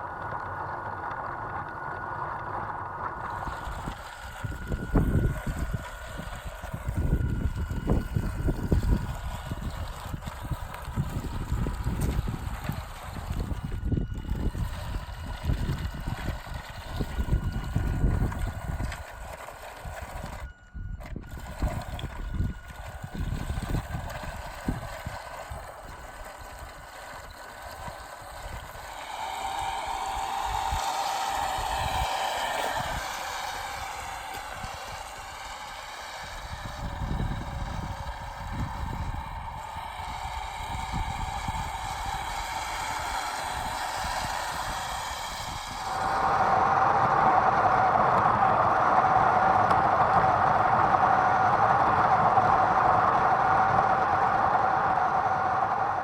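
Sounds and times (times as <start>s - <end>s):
electric motor and gearbox whine: 0.0s - 56.0s.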